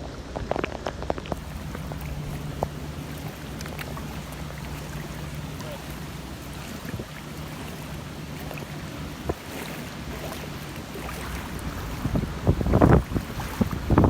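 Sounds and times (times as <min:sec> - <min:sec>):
vehicle engine humming: 0:00.0 - 0:14.0
water noise: 0:00.0 - 0:14.0
wind hiss: 0:00.0 - 0:14.0.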